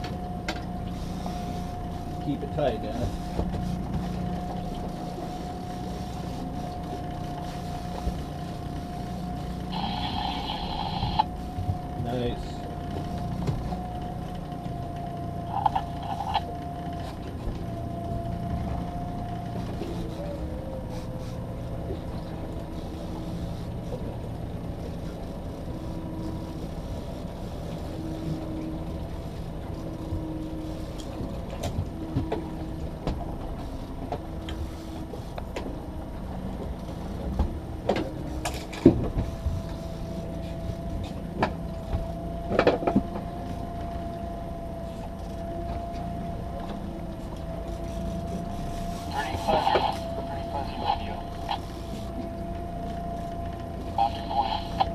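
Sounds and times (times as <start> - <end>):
outboard motor running: 0.0 - 54.9
water wash on hull: 0.0 - 54.9
wind: 0.0 - 54.9.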